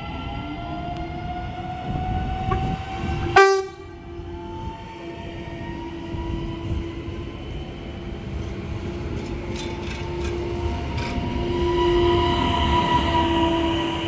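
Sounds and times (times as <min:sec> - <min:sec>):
electric train whine: 0:00.0 - 0:14.0
rumbling wheel noise: 0:01.5 - 0:14.0.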